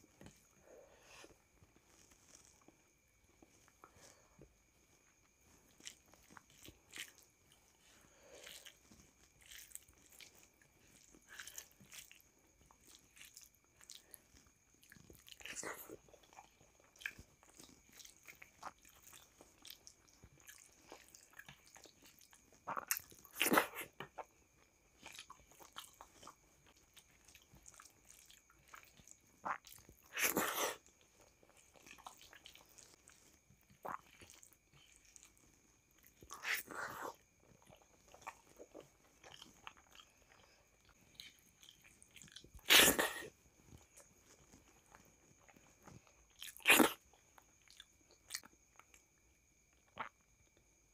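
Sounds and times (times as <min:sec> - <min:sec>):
fingers squishing rice: 0:00.0 - 0:49.1
wet chewing: 0:00.0 - 0:50.8.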